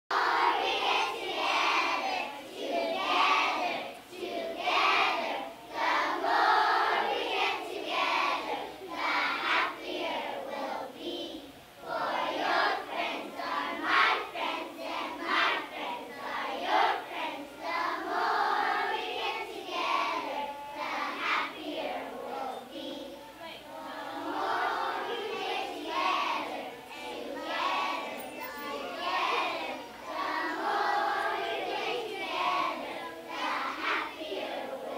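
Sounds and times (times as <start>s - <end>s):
children singing together: 0.1s - 34.9s.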